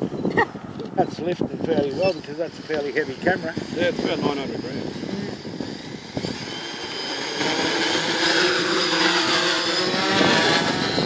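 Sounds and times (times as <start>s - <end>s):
drone motors whining: 1.7s - 11.0s.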